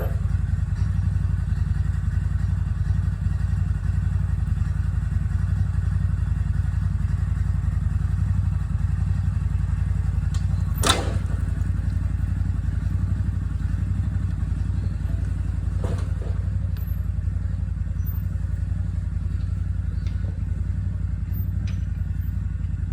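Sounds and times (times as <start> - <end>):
engine running at low speed: 0.0 - 22.9.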